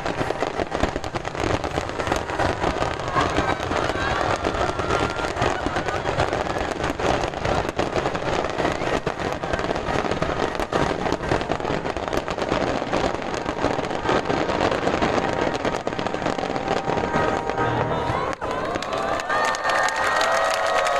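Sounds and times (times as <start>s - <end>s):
fireworks crackling: 0.0s - 20.9s.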